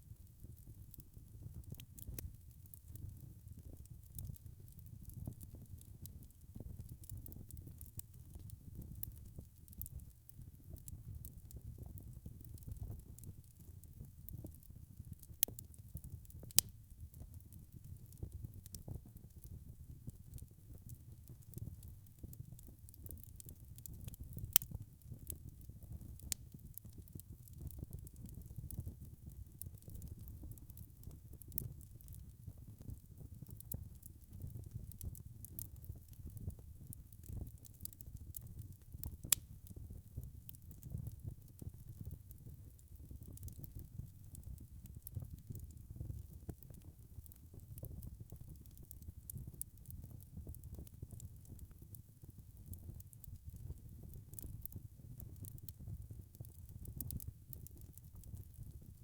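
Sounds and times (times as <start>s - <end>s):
fire crackling and popping: 0.1s - 59.0s.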